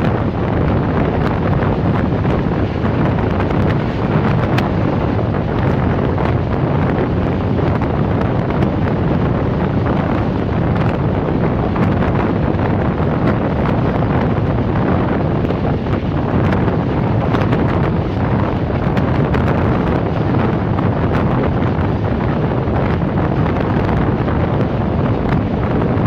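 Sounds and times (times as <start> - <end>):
train rumbling on track: 0.0 - 26.0
wind rushing over microphone: 0.0 - 26.0.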